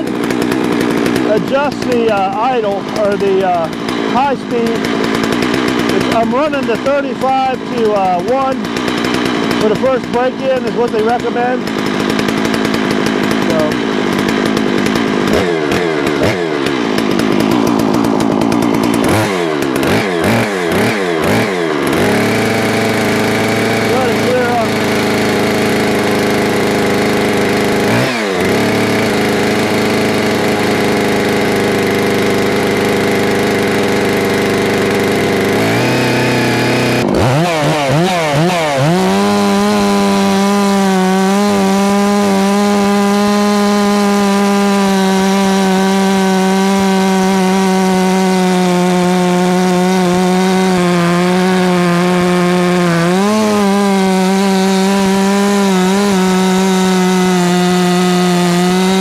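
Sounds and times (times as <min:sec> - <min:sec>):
chainsaw revving and cutting log: 0:00.0 - 0:59.0.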